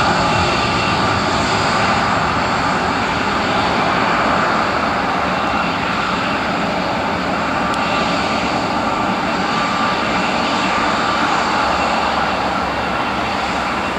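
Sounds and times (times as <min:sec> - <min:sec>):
jet engines hissing at taxi power: 0:00.0 - 0:13.9.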